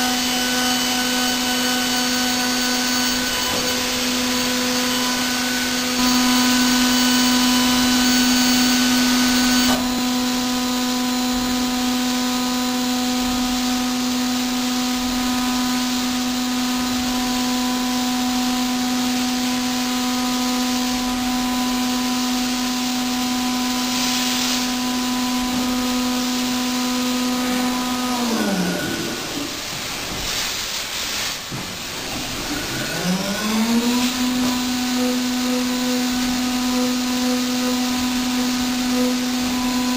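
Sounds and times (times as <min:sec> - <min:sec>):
milling machine spindle whine: 0:00.0 - 0:30.2, 0:31.4 - 0:39.9.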